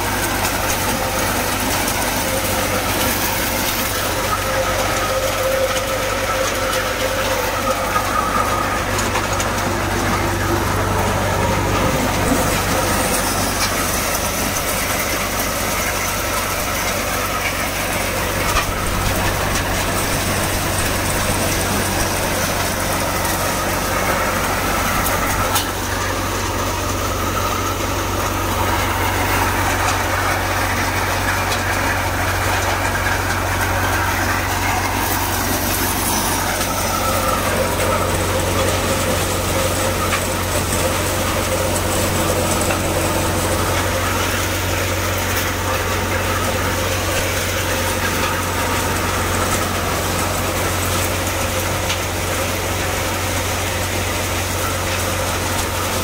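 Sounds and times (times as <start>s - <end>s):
threshing drum rattling: 0.0s - 56.0s
tractor engine drone: 0.0s - 56.0s.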